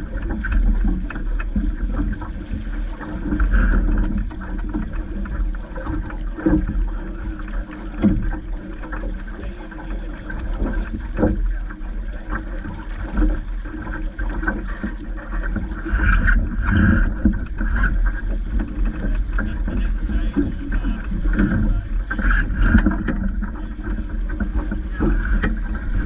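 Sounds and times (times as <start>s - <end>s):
water slapping against hull: 0.0s - 26.0s
wind rumble on microphone: 0.0s - 26.0s.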